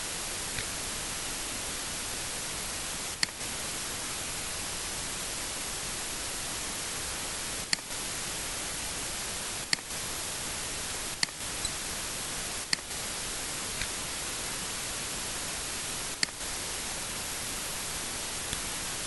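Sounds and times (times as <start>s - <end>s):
recording hiss: 0.0s - 19.0s.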